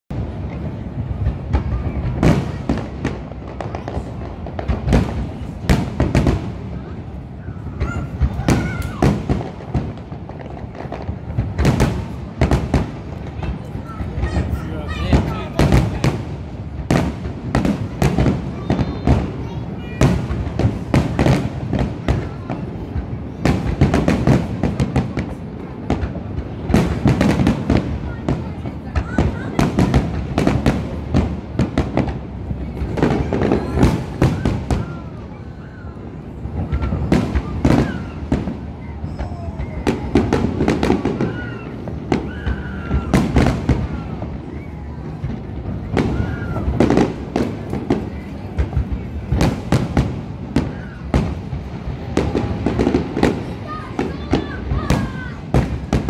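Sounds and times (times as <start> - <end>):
aerial fireworks bangs: 0.1 - 56.0
continuous low rumble: 0.1 - 56.0.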